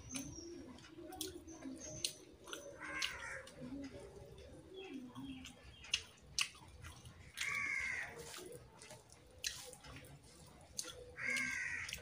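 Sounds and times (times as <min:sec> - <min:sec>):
wet chewing: 0:00.1 - 0:12.0.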